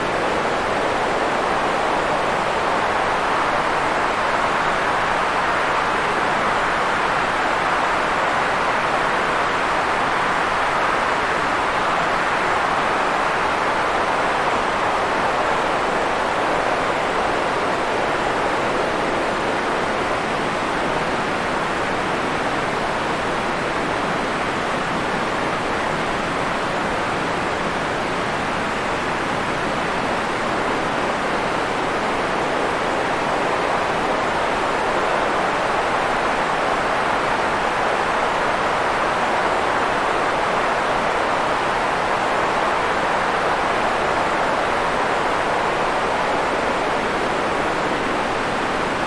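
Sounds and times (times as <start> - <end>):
white noise hiss: 0.0 - 49.0.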